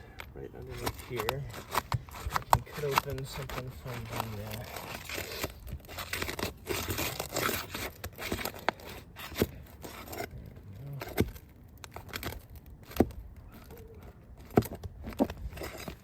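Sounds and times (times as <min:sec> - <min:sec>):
roofing material tearing: 0:00.5 - 0:16.0.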